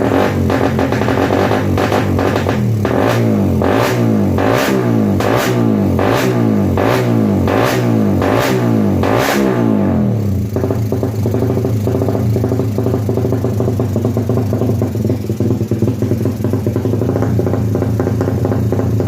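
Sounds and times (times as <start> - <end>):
motorcycle engine blipping and running: 0.0 - 19.0.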